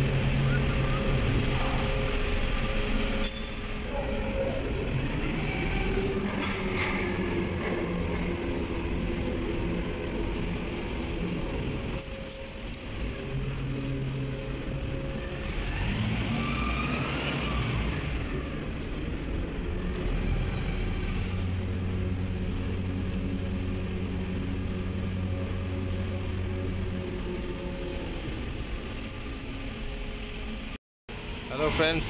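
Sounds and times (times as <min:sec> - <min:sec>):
steady low hum: 0:00.0 - 0:16.4, 0:17.5 - 0:31.7
cargo machinery engines: 0:00.0 - 0:32.0.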